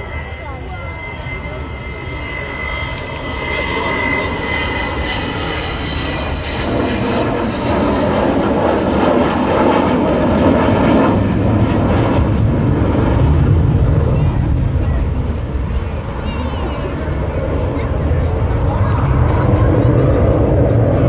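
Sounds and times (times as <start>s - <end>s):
deep jet rumble: 0.0s - 21.0s
jet engine whine: 0.0s - 21.0s.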